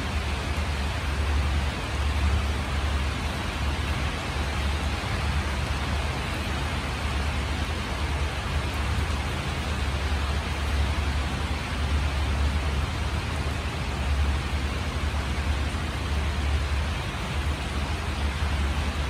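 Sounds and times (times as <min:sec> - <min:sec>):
constant low rumble: 0:00.0 - 0:19.0
rain falling on leaves: 0:00.0 - 0:19.0.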